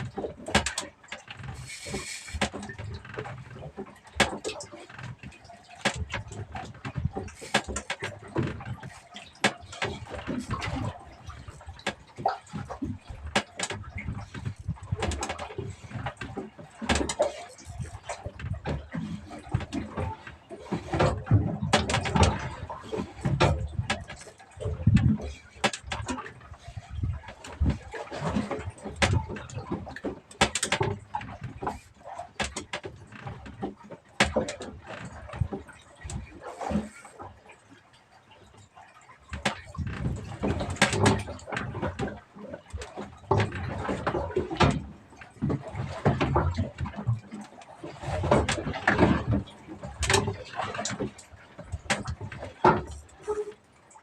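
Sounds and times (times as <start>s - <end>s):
gear knocking and clicking on boat: 0.0s - 54.0s.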